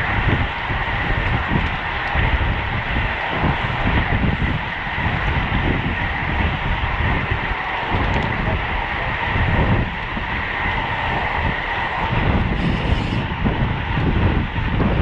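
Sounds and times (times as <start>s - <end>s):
rushing hiss of riding noise: 0.0s - 15.0s
wind buffeting microphone: 0.0s - 15.0s.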